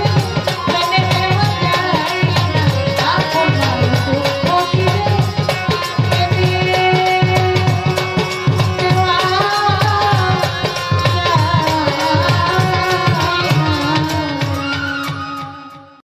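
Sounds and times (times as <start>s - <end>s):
steady drum rhythm: 0.0s - 15.6s
woman singing folk song: 0.6s - 8.0s, 8.8s - 15.7s.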